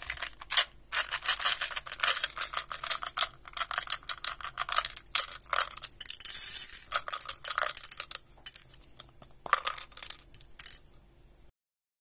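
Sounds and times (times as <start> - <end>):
mints rattling in plastic box: 0.0 - 10.8.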